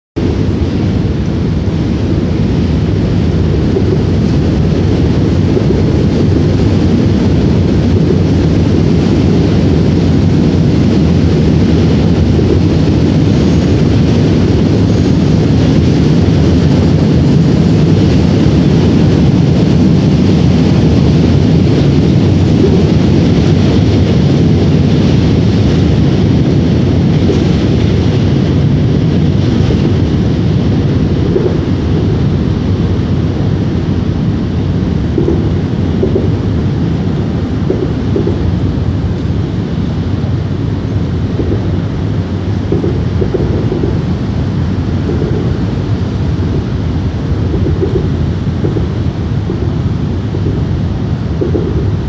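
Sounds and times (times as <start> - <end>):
wind buffeting microphone: 0.2 - 52.0.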